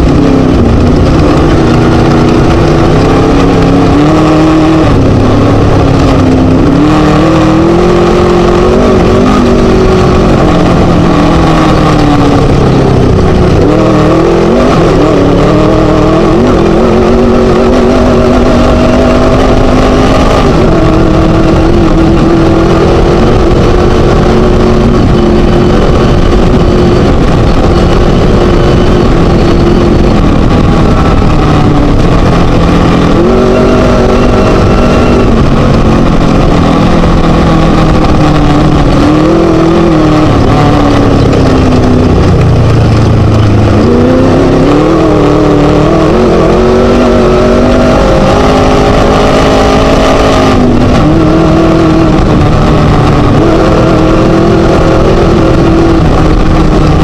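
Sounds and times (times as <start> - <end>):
race buggy engine revving: 0.0 - 57.0.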